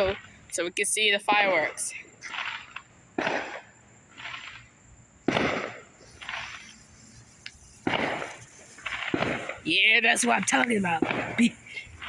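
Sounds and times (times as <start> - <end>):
softer firework bursts: 1.8 - 12.0
firework bangs: 2.2 - 12.0.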